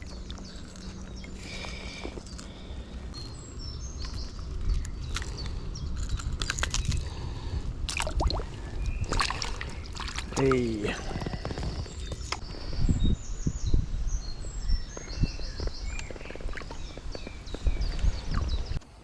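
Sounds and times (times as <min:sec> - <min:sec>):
wind rumble on microphone: 0:00.0 - 0:18.8.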